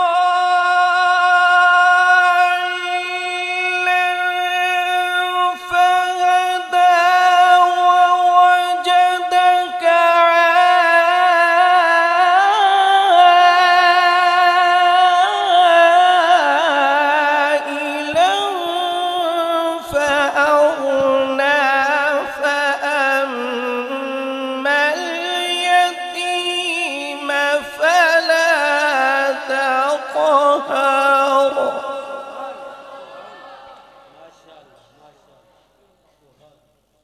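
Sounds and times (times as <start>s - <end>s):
man chanting melodic recitation: 0.0s - 33.0s.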